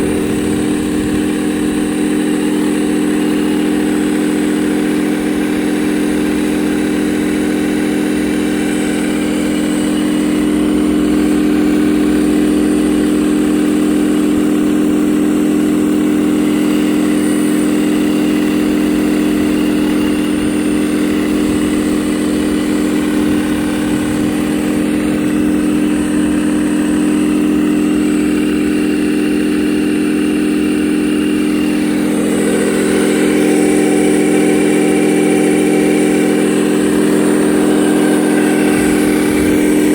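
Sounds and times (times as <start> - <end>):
model machine mechanical drone: 0.0 - 39.9.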